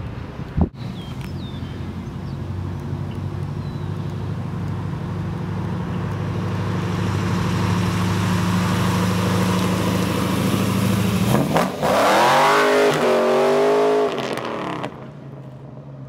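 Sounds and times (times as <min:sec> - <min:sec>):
car engine approaching: 0:00.2 - 0:16.0.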